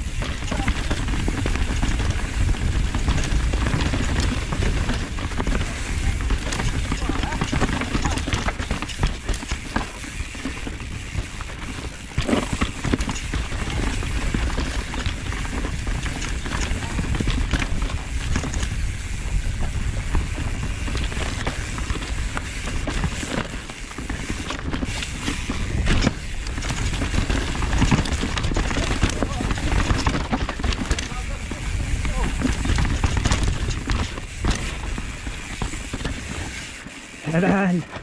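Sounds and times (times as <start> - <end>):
bike rattling and knocking: 0.0 - 38.0
bike tyre noise: 0.0 - 38.0
wind: 0.0 - 38.0.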